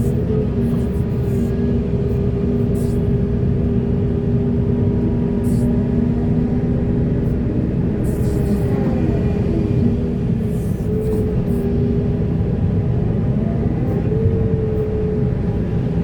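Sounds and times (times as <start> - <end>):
heavy diesel machinery drone: 0.0 - 16.0.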